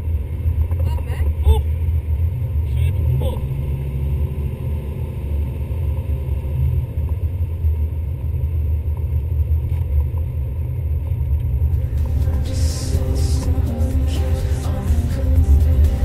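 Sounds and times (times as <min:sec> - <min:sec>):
car engine running inside cabin: 0:00.0 - 0:16.0.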